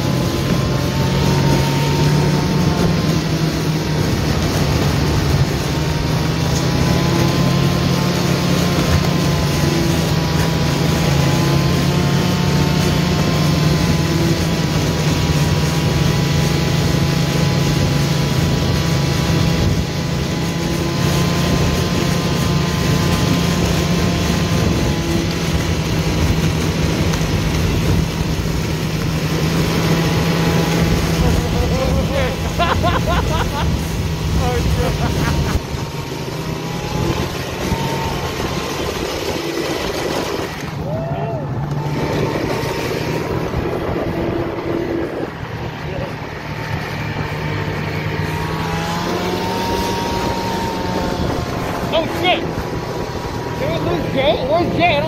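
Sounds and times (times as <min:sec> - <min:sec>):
snowmobile engine drone: 0:00.0 - 0:55.0.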